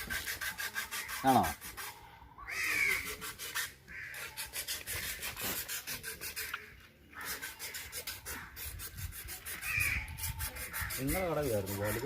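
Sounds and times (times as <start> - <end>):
rhythmic hand scraping: 0.0 - 12.0.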